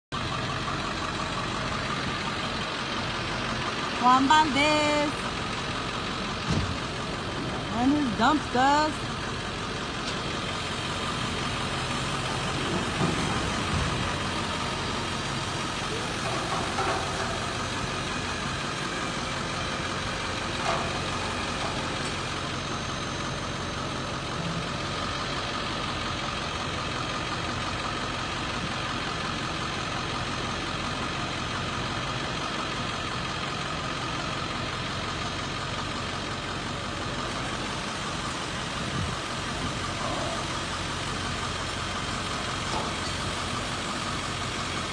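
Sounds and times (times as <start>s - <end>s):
truck engine running: 0.1s - 44.9s
hoist whine: 0.6s - 44.9s.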